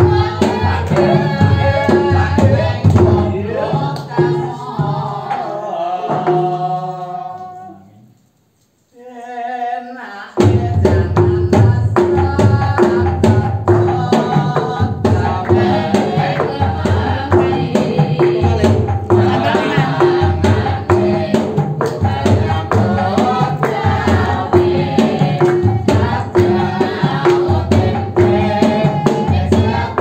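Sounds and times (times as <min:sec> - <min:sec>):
struck-stone percussion beat: 0:00.0 - 0:05.5, 0:06.1 - 0:06.9, 0:10.4 - 0:30.0
person singing: 0:00.0 - 0:08.1, 0:08.9 - 0:30.0.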